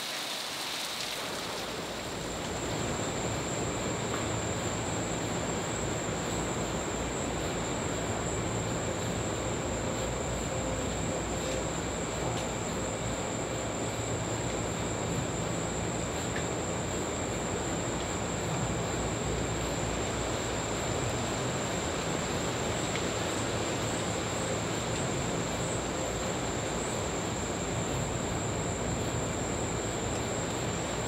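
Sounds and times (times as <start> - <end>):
crickets trilling: 0.0 - 31.0.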